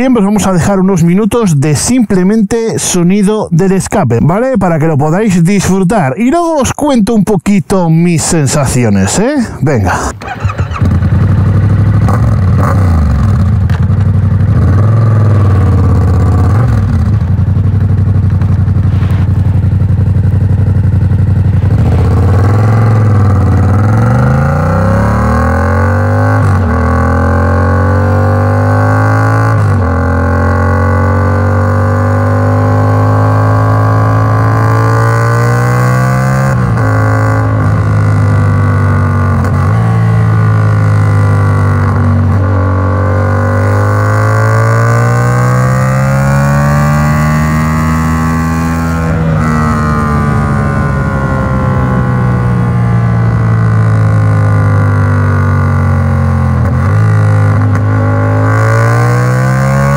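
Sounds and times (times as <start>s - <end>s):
motorcycle engine accelerating: 7.8s - 59.9s.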